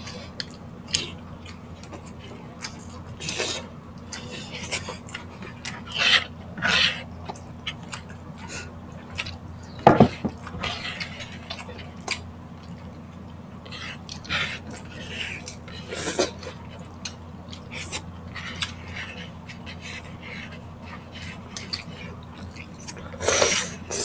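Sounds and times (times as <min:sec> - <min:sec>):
chewing and lip-smacking: 0:00.0 - 0:24.0
low steady hum: 0:00.0 - 0:24.0.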